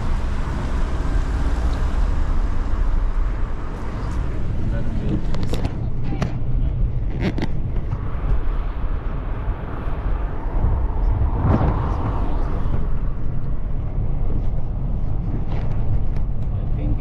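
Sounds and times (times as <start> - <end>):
vehicle passing: 0.0 - 7.0, 7.6 - 14.8
road and engine rumble in car: 0.0 - 17.0.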